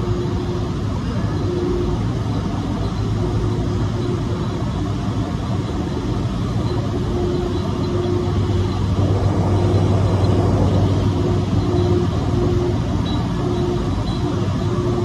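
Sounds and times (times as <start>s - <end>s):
faint machine tone: 0.0s - 15.0s
industrial machine drone: 0.0s - 15.0s.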